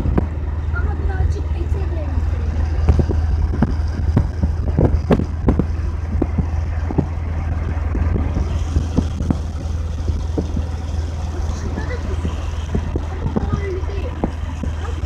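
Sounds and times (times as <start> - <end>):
vehicle rumble from inside: 0.0 - 15.0.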